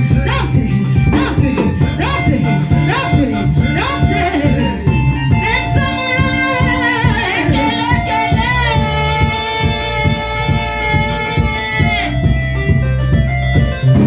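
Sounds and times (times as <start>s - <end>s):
worship singing with instruments: 0.0s - 12.8s.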